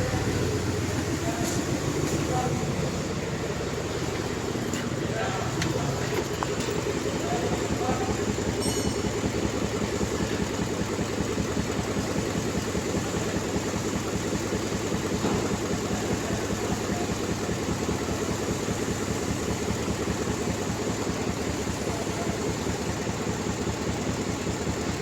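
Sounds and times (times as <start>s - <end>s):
misfiring engine idling: 0.0s - 25.0s.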